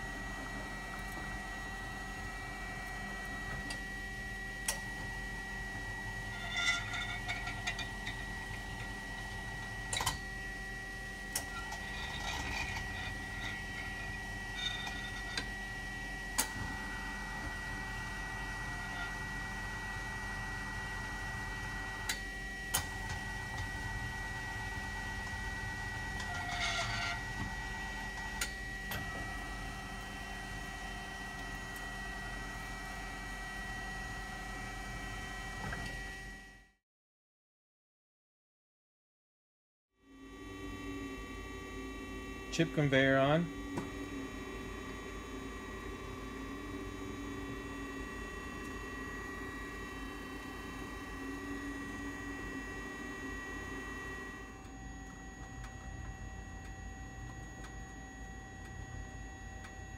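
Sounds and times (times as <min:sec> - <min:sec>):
lathe carousel turning: 0:00.0 - 0:33.4, 0:40.6 - 0:57.4
machine hum with high whine: 0:00.0 - 0:36.8, 0:40.0 - 0:59.9.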